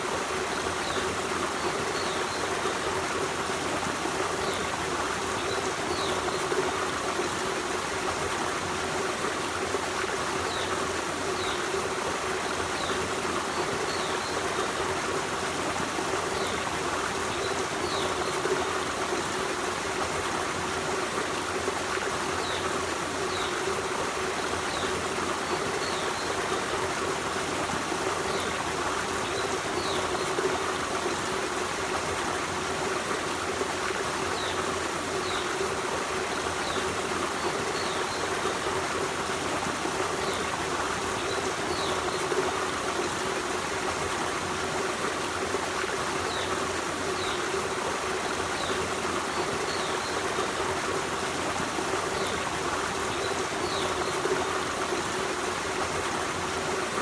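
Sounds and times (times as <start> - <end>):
forest stream flowing: 0.0 - 57.0.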